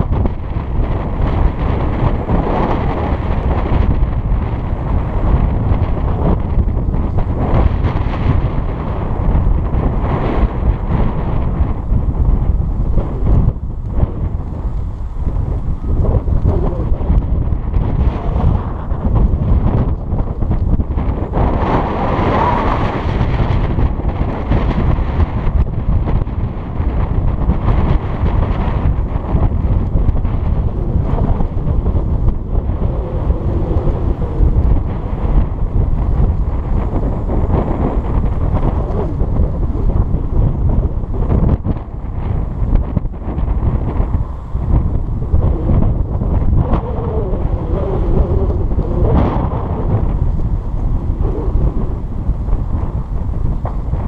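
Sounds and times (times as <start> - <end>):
gusty wind buffeting microphone: 0.0 - 54.0.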